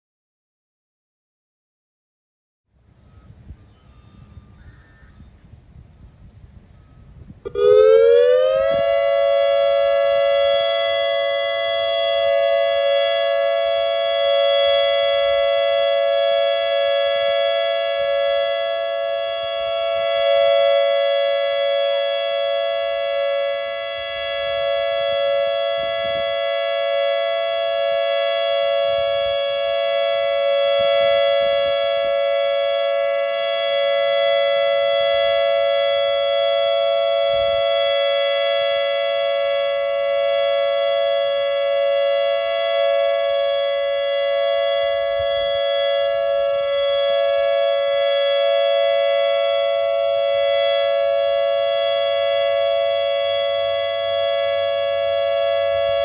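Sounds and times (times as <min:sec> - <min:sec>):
warning siren steady chord: 0:02.7 - 0:56.0.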